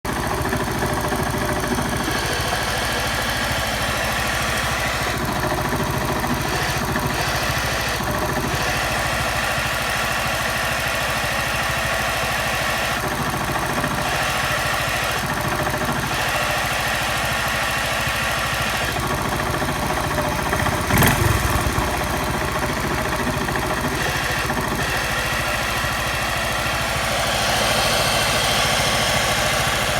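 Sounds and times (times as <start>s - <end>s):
abnormal engine noise: 0.0s - 29.9s
motorcycle engine idling: 0.1s - 29.9s.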